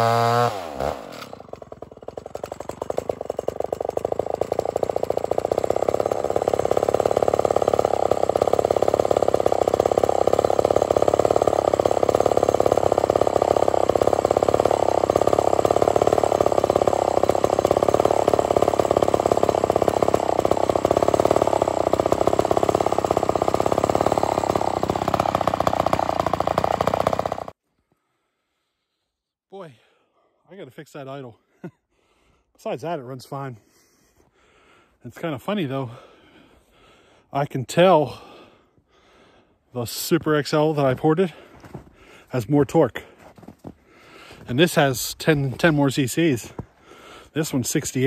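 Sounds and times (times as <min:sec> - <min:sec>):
chainsaw engine idling: 0:00.0 - 0:28.2, 0:33.3 - 0:48.0.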